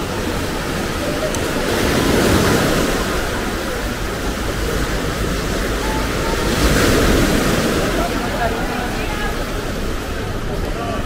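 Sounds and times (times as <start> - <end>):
small waves breaking on beach: 0.0 - 11.0.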